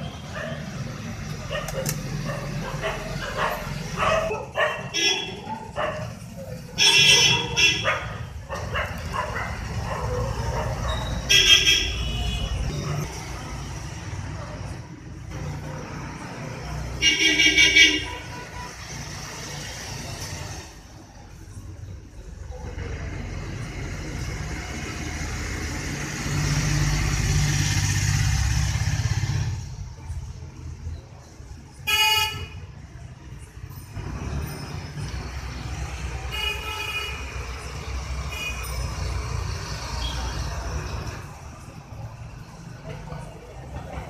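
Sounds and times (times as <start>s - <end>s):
rumble of passing vehicles: 0.0s - 44.0s.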